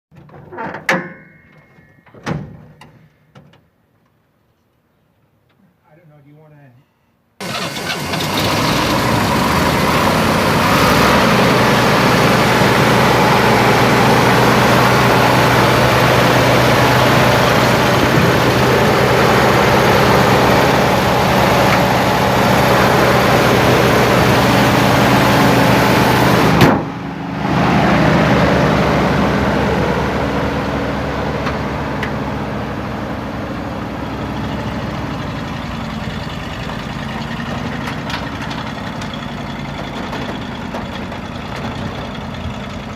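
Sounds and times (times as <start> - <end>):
truck engine idling: 7.4 - 42.9.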